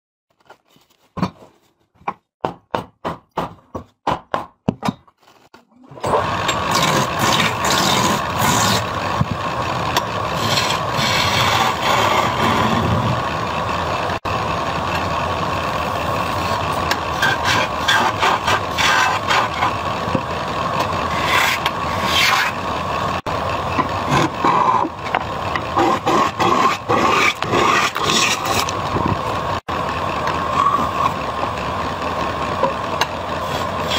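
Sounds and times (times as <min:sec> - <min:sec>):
turning tool cutting spinning wood: 0:05.9 - 0:33.9
wood lathe running: 0:05.9 - 0:33.9.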